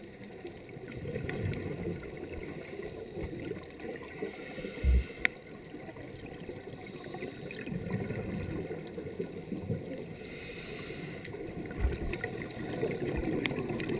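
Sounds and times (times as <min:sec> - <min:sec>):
muffled underwater rumble: 0:00.0 - 0:13.9
divers' exhaled air bubbling: 0:00.7 - 0:13.9.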